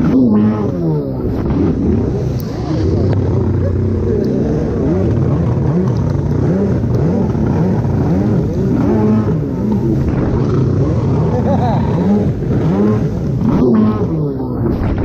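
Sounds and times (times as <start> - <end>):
jet ski engine revving: 0.0 - 15.0.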